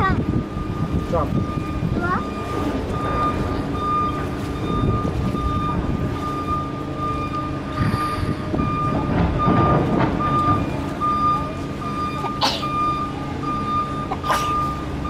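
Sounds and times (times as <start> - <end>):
low engine rumble: 0.0 - 15.0
reversing alarm beeping: 0.0 - 15.0.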